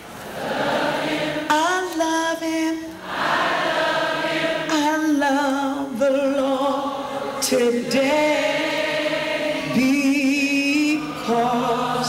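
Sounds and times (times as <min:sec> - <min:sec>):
voices singing along: 0:00.1 - 0:12.0.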